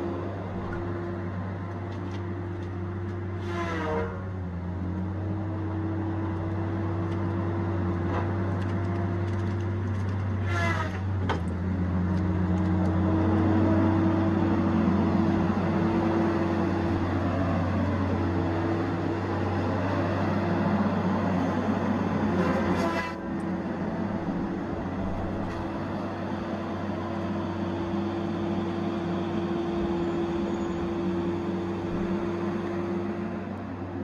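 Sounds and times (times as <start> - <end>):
diesel engine and hydraulics running: 0.0 - 34.0.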